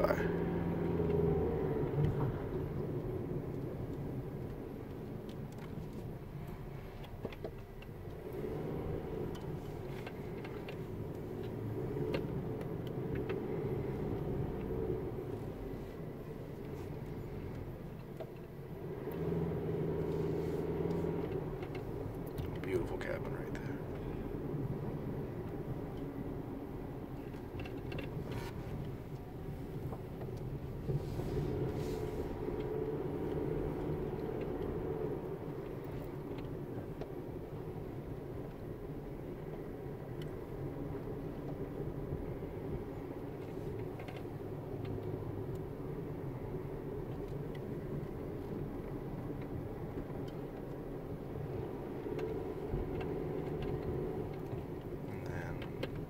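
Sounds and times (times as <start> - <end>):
engine and tyre rumble in car: 0.0 - 56.0.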